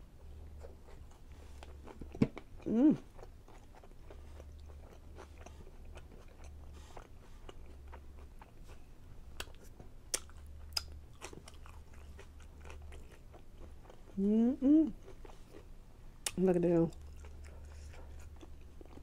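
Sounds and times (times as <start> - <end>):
low steady hum: 0.0 - 19.0
chewing with mouth smacks: 0.4 - 14.2, 14.8 - 19.0.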